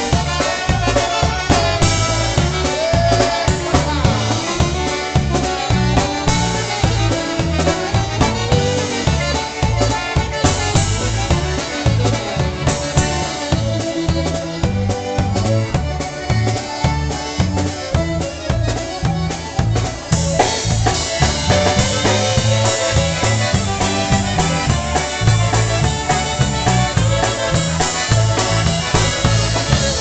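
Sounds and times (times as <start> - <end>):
polka band playing: 0.0 - 30.0.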